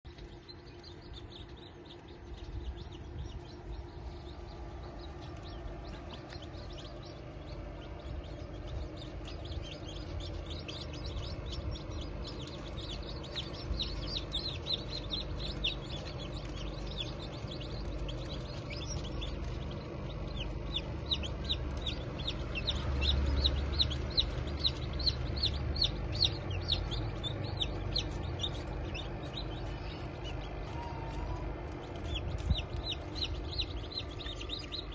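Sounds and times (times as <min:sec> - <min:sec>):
egg incubator humming: 0:00.0 - 0:34.9
chicks peeping: 0:00.1 - 0:34.9.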